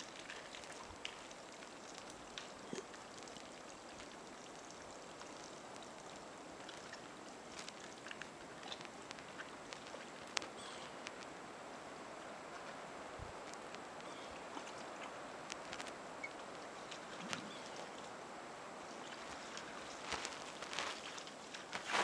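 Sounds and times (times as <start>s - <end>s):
outdoor hiss: 0.0s - 22.0s.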